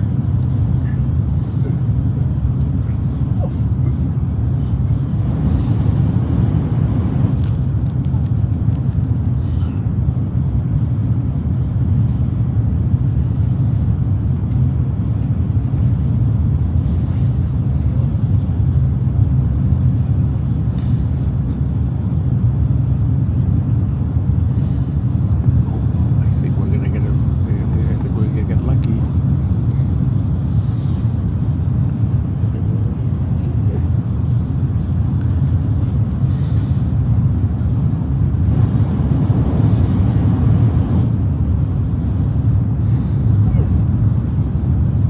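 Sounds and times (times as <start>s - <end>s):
train rumbling at speed: 0.0s - 45.0s.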